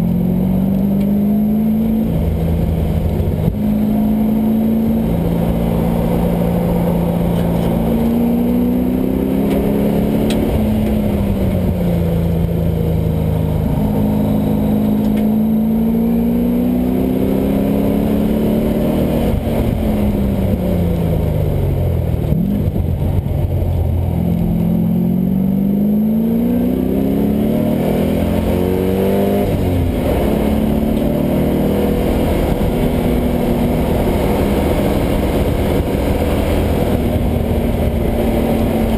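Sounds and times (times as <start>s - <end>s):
car engine revving hard: 0.0s - 20.7s, 24.2s - 38.9s.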